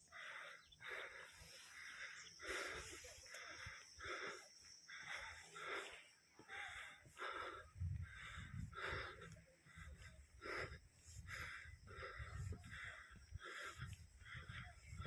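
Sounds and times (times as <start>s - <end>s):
person breathing hard: 0.0s - 15.0s.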